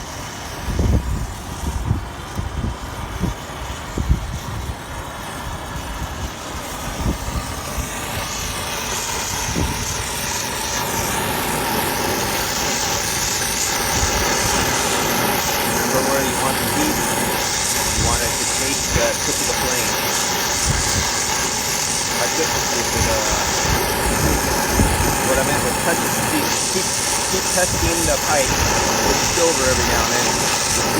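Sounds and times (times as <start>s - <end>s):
torch burning with hiss: 0.0s - 30.9s.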